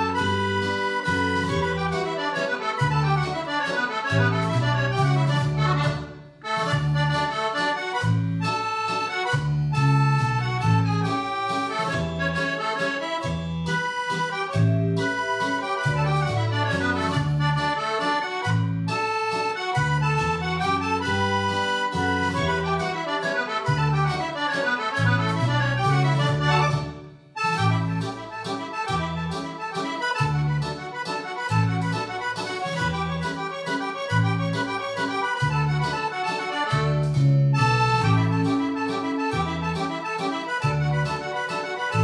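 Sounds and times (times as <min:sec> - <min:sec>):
accordion playing a mazurka: 0:00.0 - 0:42.0.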